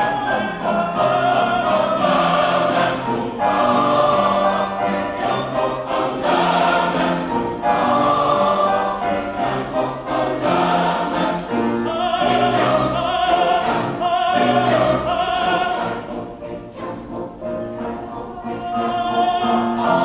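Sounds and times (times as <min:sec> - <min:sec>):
mixed choir singing: 0:00.0 - 0:20.0.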